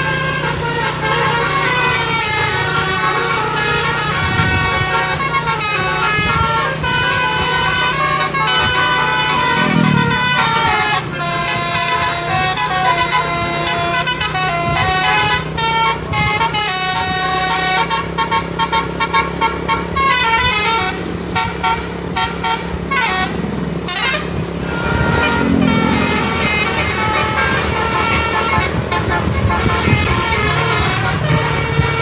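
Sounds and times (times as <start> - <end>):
engine hum: 0.0 - 32.0
musical air horn melody: 0.0 - 32.0.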